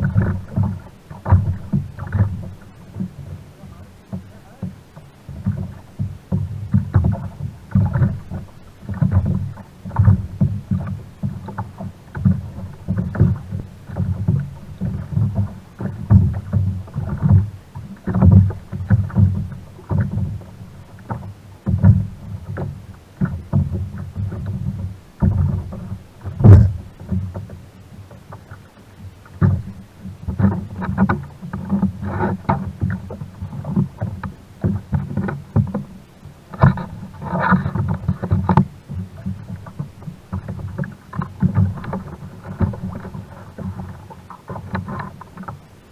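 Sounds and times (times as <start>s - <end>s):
waves slapping against kayak hull: 0.0s - 45.9s.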